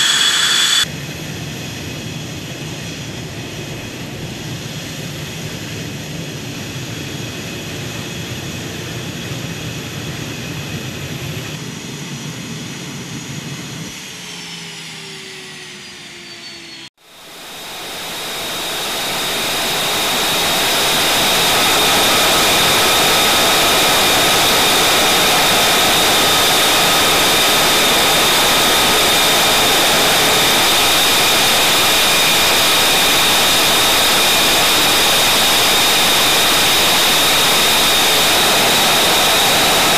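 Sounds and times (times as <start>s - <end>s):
jet engine high whine: 0.0s - 39.9s
jet engines whining: 0.0s - 39.9s.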